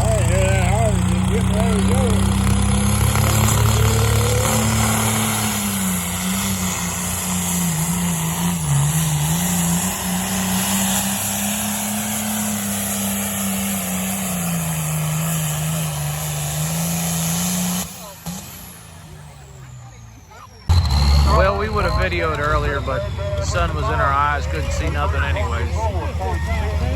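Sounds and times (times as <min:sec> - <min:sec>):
vehicle engine straining under load: 0:00.0 - 0:26.9.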